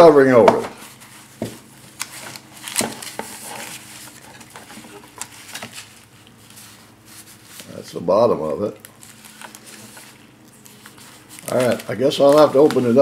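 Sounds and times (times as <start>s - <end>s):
plastic wrap rustling: 0.8s - 13.0s.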